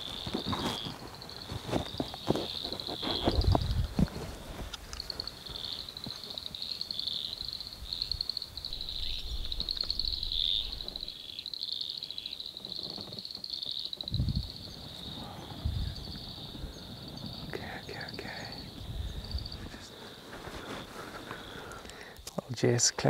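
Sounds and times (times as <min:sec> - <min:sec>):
frogs trilling and chirping: 0:00.0 - 0:03.7, 0:04.8 - 0:20.2.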